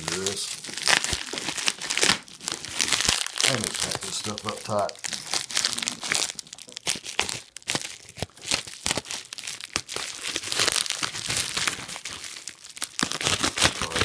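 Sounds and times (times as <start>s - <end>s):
packing material crumpled by hand: 0.0s - 14.0s.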